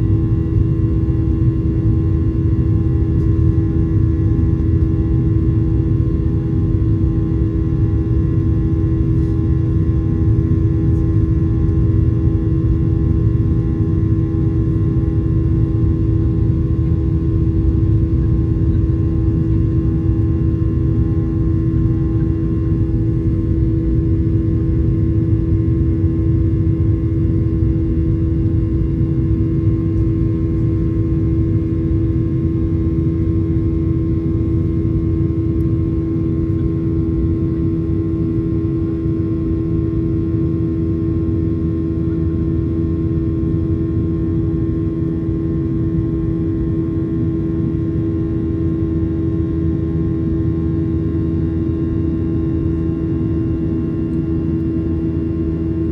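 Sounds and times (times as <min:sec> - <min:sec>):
aircraft cabin engine rumble: 0:00.0 - 0:55.9
constant hum: 0:00.0 - 0:55.9.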